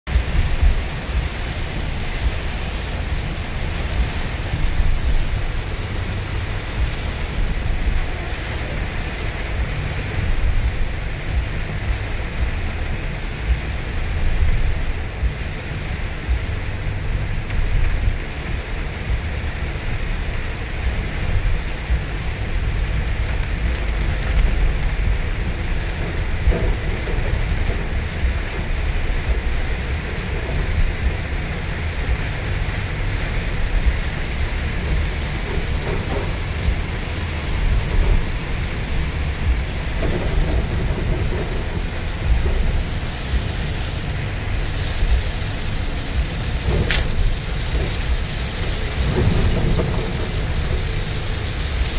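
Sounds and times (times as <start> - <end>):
heavy rain on a car: 0.1 - 51.9
tyre and road rumble: 0.1 - 51.9.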